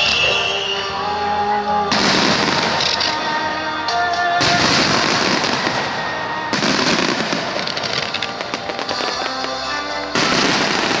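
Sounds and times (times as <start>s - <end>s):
music: 0.0s - 11.0s
fireworks crackling and bursting: 1.8s - 11.0s.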